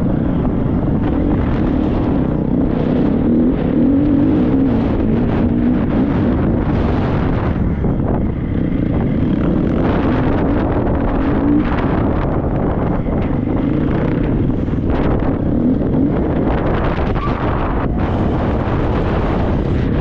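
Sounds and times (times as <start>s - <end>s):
motorcycle engine revving: 0.0s - 20.0s
wind rumble on microphone: 0.0s - 20.0s.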